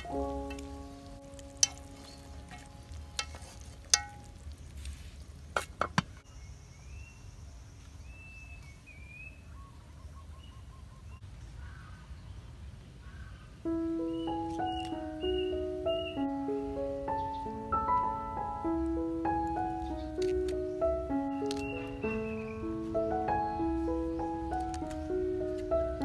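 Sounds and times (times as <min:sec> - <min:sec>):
birds chirping: 0:00.0 - 0:03.6, 0:04.3 - 0:26.0
low outdoor background: 0:00.0 - 0:26.0.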